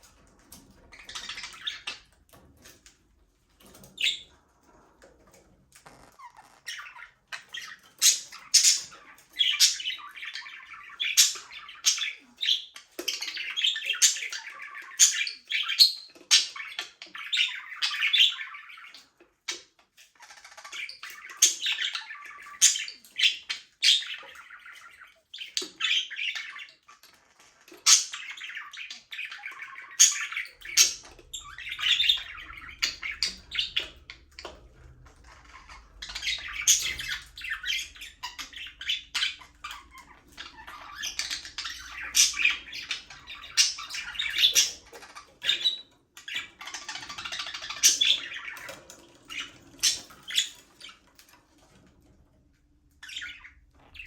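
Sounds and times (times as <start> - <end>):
budgerigars chattering and chirping: 0.0 - 2.9, 3.6 - 4.3, 6.0 - 51.9, 52.9 - 54.0.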